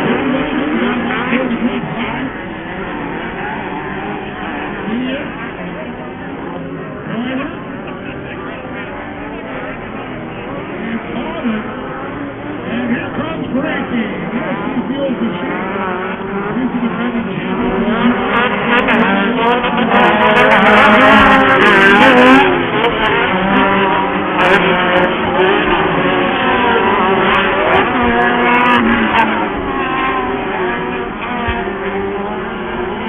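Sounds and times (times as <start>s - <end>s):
off-road race car engines revving: 0.0s - 33.0s.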